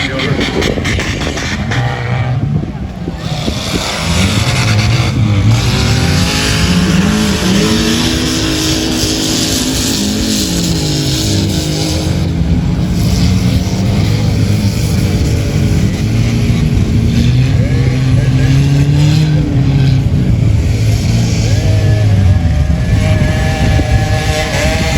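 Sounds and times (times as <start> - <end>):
off-road engine revving: 0.0 - 24.9.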